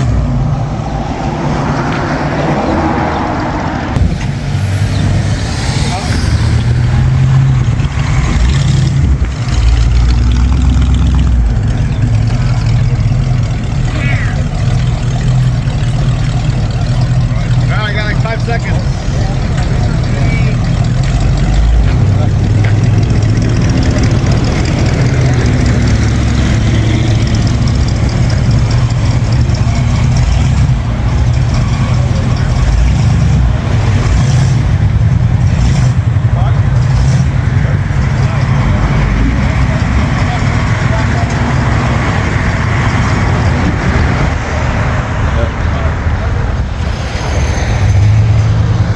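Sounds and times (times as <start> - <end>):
hot rod engine idling: 5.8 - 46.8.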